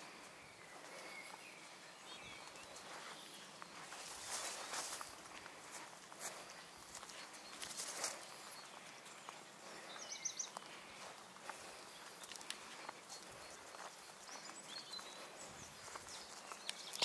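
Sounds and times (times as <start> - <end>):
bird chirp: 0.0 - 17.0
soft footsteps on grass: 0.0 - 17.0.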